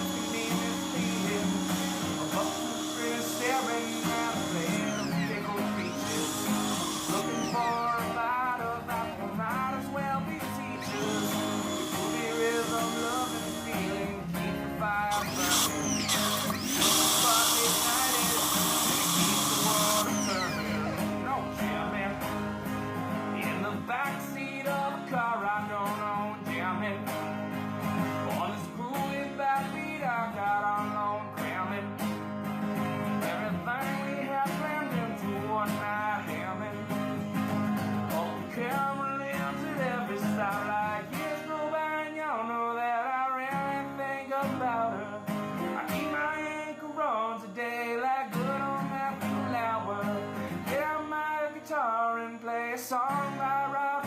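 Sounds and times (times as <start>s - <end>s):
country music with acoustic guitar: 0.0s - 54.0s.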